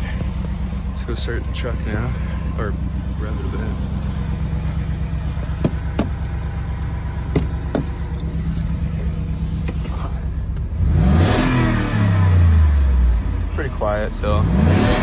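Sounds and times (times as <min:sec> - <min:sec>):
truck engine idling and revving: 0:00.0 - 0:15.0.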